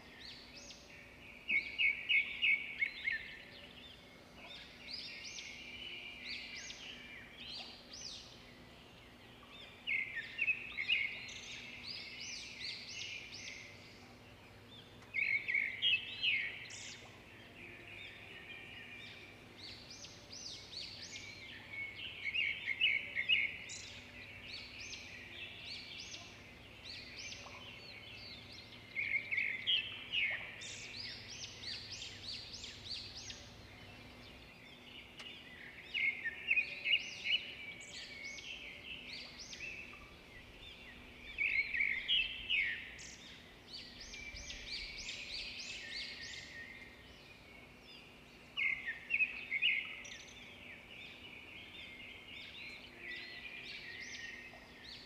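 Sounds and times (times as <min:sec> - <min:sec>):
songbird chirps and trills: 0:00.0 - 0:55.0.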